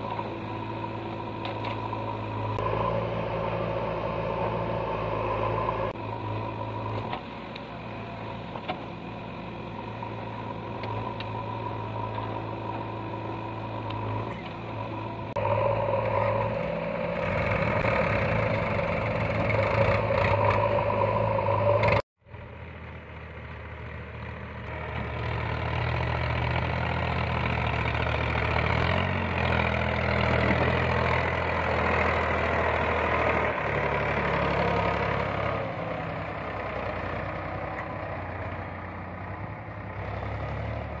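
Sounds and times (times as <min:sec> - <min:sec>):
backhoe diesel engine digging: 0:00.0 - 0:22.0, 0:22.6 - 0:41.0
tractor diesel engine running: 0:00.0 - 0:41.0.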